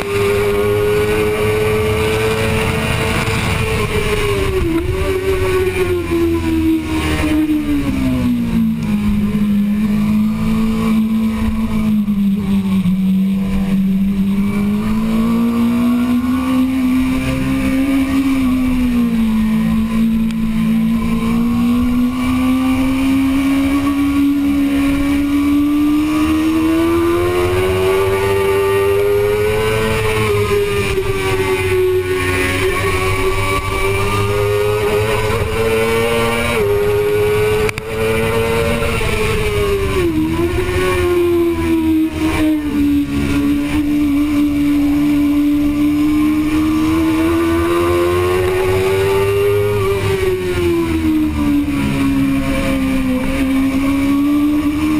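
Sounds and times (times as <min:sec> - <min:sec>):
motorcycle racing engine: 0:00.0 - 0:54.9.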